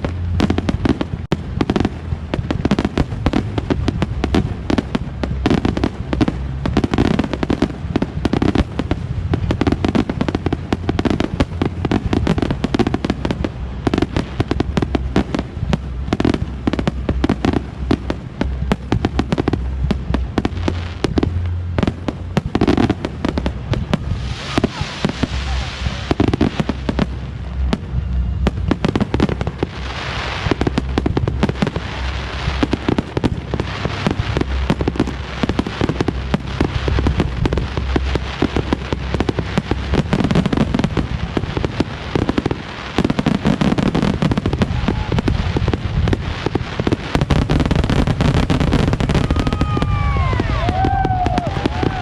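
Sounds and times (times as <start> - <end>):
fireworks booming bursts: 0.0 - 52.0
fireworks crackling and popping: 0.0 - 52.0
whistling fireworks: 0.0 - 52.0.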